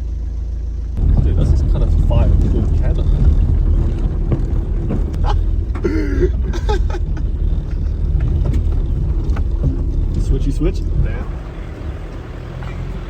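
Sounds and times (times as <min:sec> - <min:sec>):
car engine and tyres inside cabin: 0:00.0 - 0:13.0.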